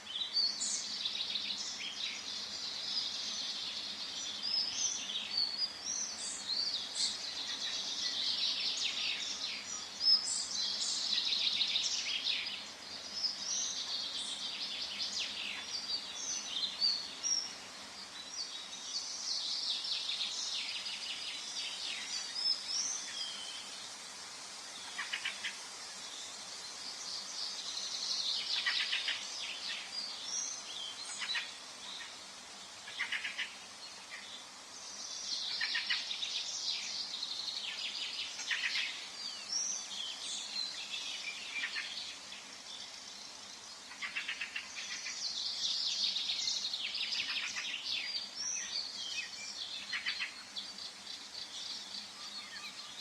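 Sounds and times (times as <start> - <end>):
soft background hiss: 0.0 - 53.0
songbirds singing and chirping: 0.0 - 53.0.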